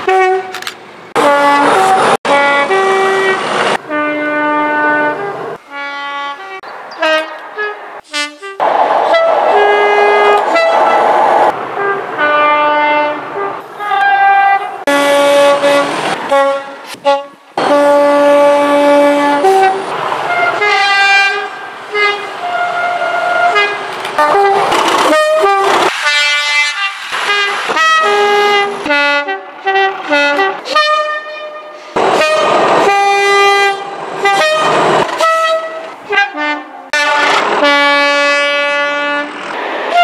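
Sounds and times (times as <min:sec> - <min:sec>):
passing train rumble: 0:00.0 - 0:40.0
two-tone locomotive horn blasts: 0:00.0 - 0:40.0.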